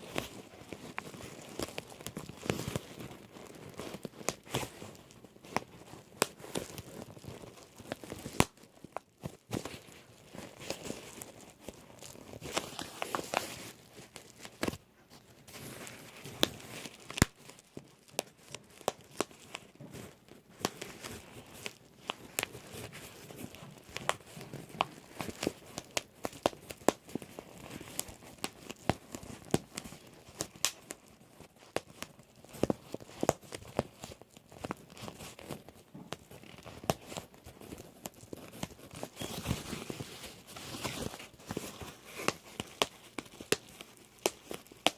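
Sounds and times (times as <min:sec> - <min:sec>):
bubble wrap crinkling and popping: 0:00.0 - 0:44.9.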